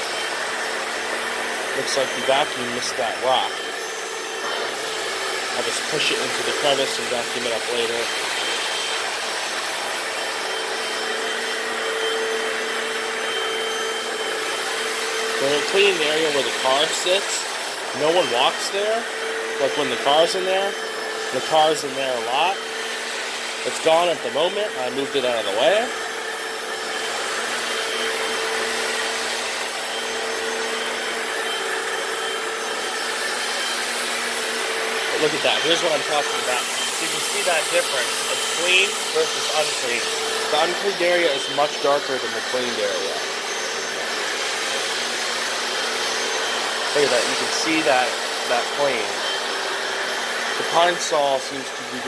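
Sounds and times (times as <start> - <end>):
floor cleaner running: 0.0 - 52.0.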